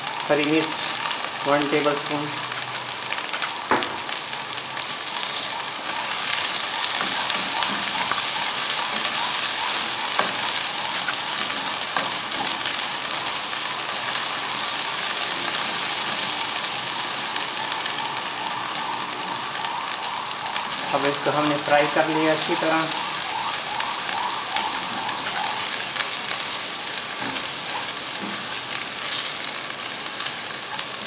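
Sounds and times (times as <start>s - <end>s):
paste sizzling in hot oil: 0.0s - 31.0s.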